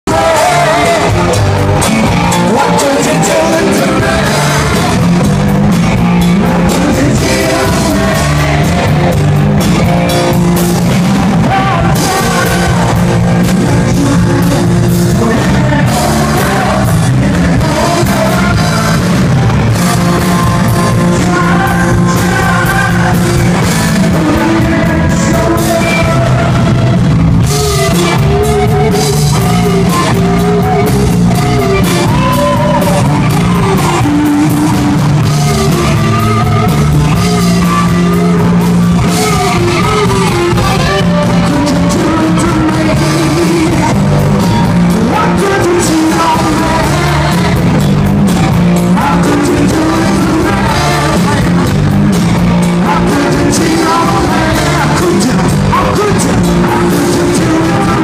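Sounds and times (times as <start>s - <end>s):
bass guitar: 0.0s - 58.0s
drum kit: 0.0s - 58.0s
electric guitars: 0.0s - 58.0s
person singing: 0.0s - 58.0s.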